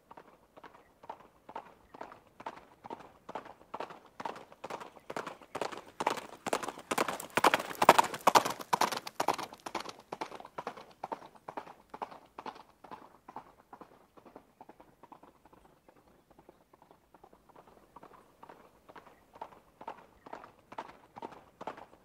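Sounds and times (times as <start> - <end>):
rapid clip-clop clicks: 0.0 - 22.0.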